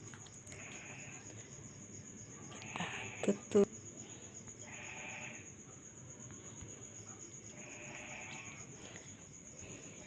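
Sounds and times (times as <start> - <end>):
cricket trilling: 0.0 - 10.0
low rasping insect call: 0.0 - 10.0.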